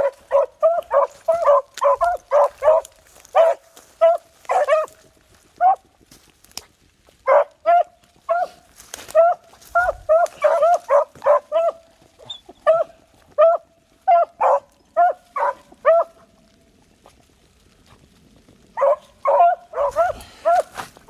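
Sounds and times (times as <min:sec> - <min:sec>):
hounds baying and barking: 0:00.0 - 0:05.9, 0:07.2 - 0:17.2, 0:17.8 - 0:21.0.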